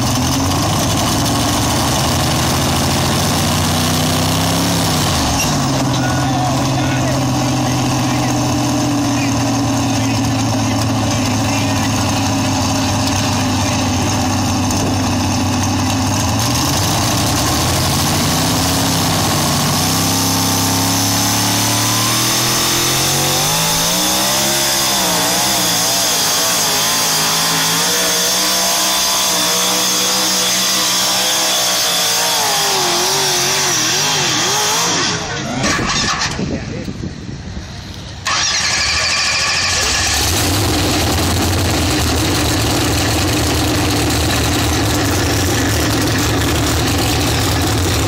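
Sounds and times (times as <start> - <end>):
pulling engine running hard: 0.0 - 48.0.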